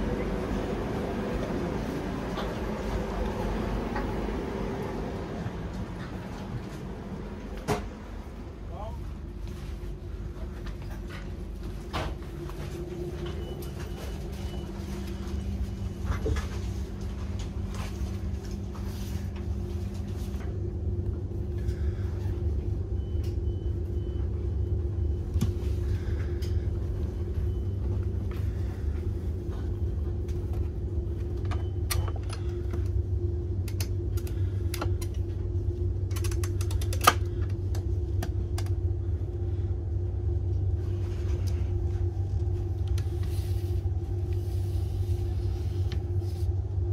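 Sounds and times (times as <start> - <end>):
low hum inside train coach: 0.0 - 46.9.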